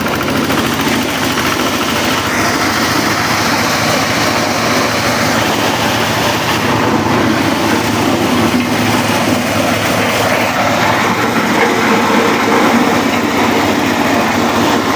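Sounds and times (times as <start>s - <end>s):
corn sheller machine running: 0.0s - 14.9s.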